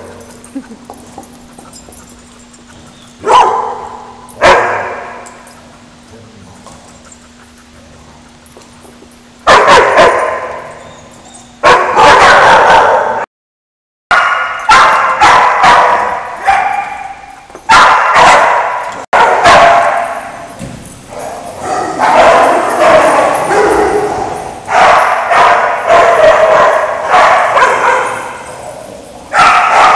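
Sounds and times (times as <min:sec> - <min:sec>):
dogs barking in tiled room: 0:00.0 - 0:13.3, 0:14.1 - 0:29.9.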